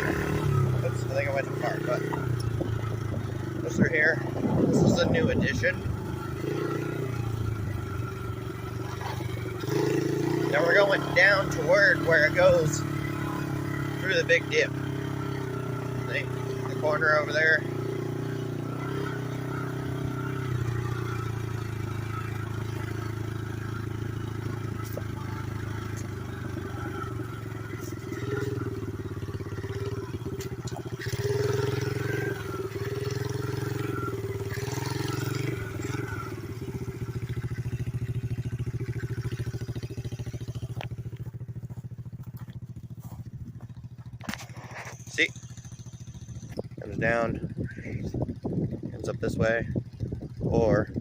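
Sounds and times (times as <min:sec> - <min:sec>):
small motorbike engine revving: 0:00.0 - 0:51.0.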